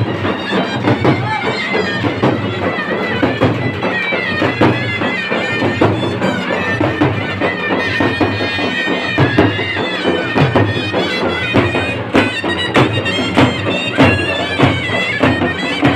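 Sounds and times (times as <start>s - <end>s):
loud drum beat: 0.0s - 15.9s
shrill reed wind instrument melody: 0.0s - 15.9s.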